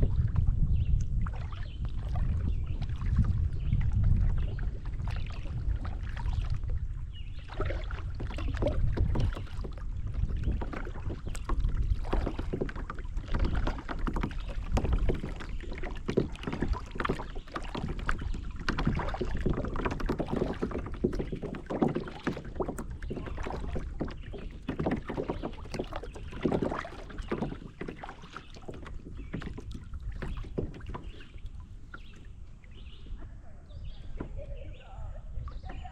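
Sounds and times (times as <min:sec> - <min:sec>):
paddle splashing in water: 0:00.0 - 0:35.9.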